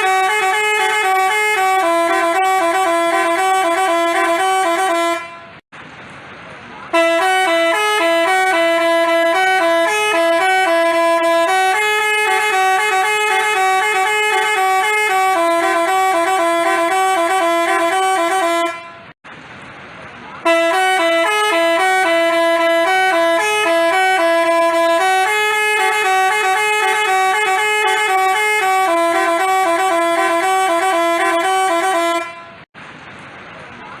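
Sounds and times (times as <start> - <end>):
bus horn playing a multi-note tune: 0.0 - 5.6, 6.9 - 19.2, 20.4 - 32.7.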